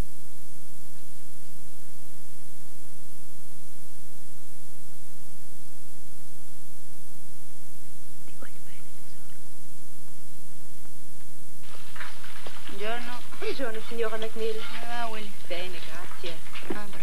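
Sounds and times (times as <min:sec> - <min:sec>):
low constant hum: 0:00.0 - 0:17.0
tape hiss: 0:00.0 - 0:17.0.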